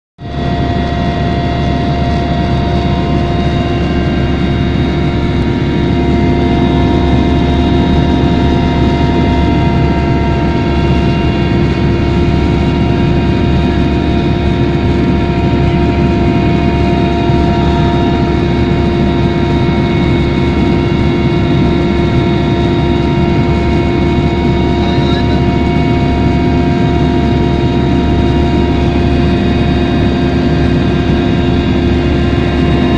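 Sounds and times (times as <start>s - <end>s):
helicopter engine and rotors drone: 0.2s - 32.9s
steady whining tones: 0.2s - 32.9s.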